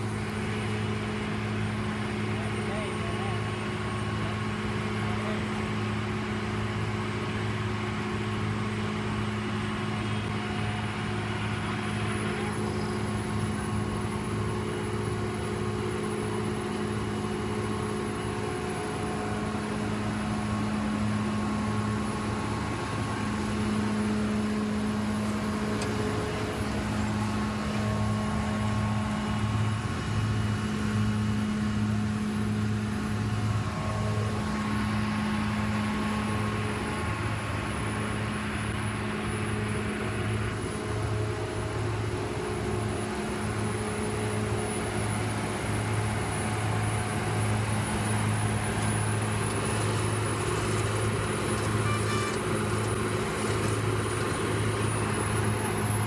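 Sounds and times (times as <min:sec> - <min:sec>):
machinery engine humming: 0:00.0 - 0:56.0.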